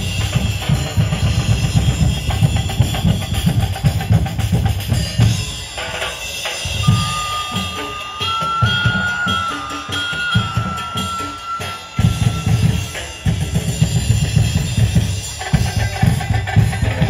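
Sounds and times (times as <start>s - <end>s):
percussion ensemble drumming: 0.0s - 17.0s.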